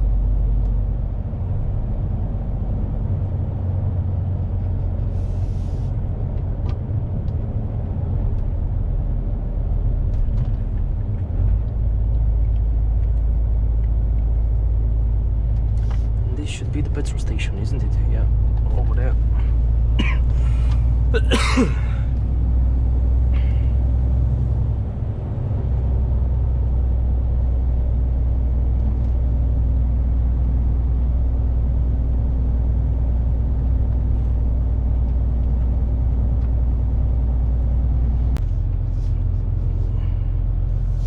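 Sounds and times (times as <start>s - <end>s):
truck engine droning: 0.0s - 41.0s.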